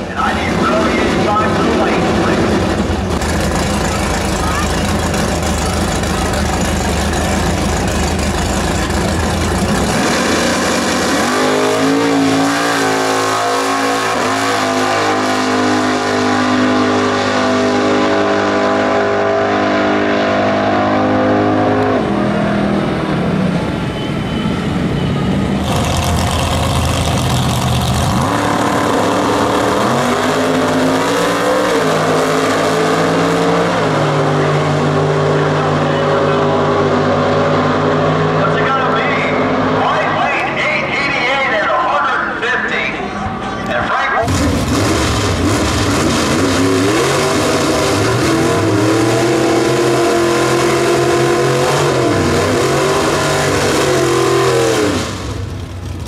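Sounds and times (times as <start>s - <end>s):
drag cars launching full throttle: 0.0s - 56.0s
muscle car engine revving: 0.2s - 22.8s, 25.6s - 41.6s, 43.6s - 56.0s.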